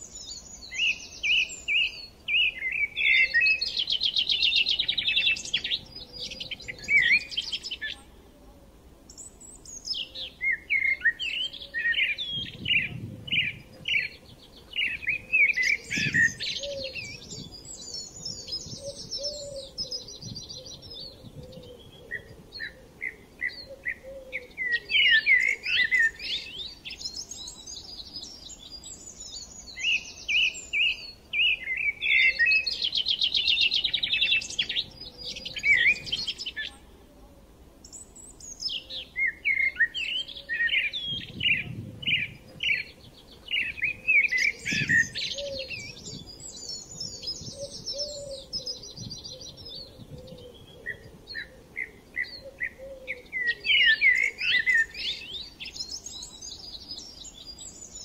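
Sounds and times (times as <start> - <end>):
birds chirping and trilling: 0.0 - 8.2, 9.1 - 37.0, 37.8 - 58.0.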